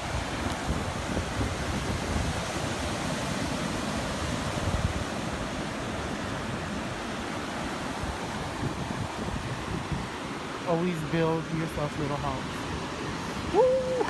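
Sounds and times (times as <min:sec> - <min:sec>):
ocean surf: 0:00.0 - 0:14.0
wind rumbling on microphone: 0:00.0 - 0:14.0.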